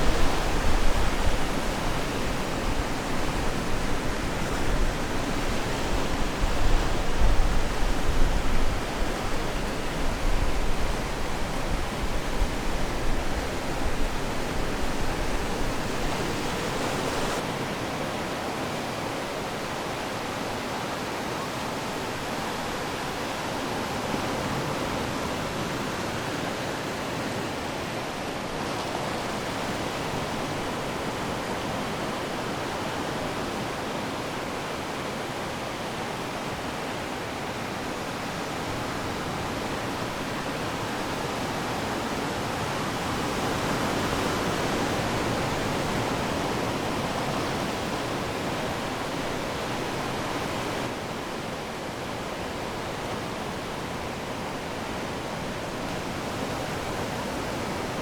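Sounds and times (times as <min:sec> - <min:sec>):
waves washing on shore: 0:00.0 - 0:58.0.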